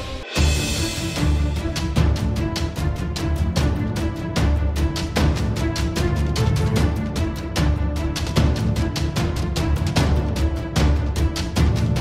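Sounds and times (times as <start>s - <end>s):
music with fast percussive beat: 0.0s - 12.0s.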